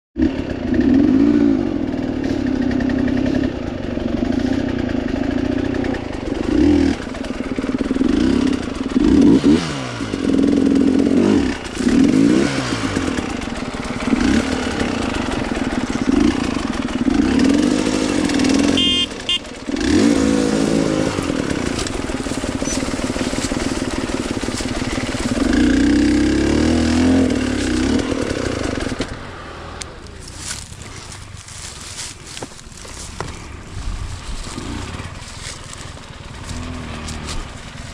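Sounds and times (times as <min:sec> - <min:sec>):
dirt bike engine revving: 0:00.2 - 0:37.9.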